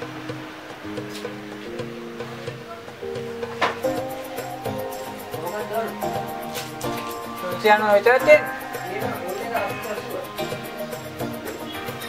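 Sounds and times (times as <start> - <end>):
melodic background music: 0.0 - 12.0.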